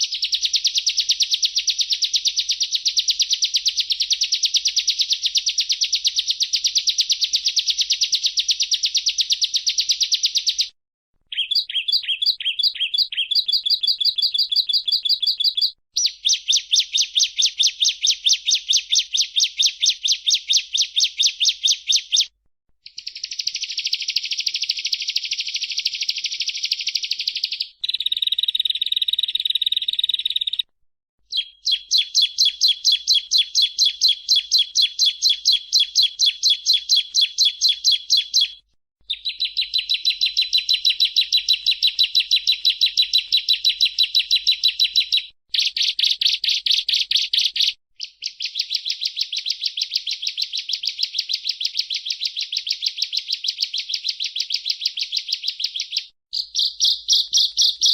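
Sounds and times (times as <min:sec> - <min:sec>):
bird singing fast high chirps: 0:00.0 - 0:10.7, 0:11.3 - 0:30.6, 0:31.3 - 0:57.9.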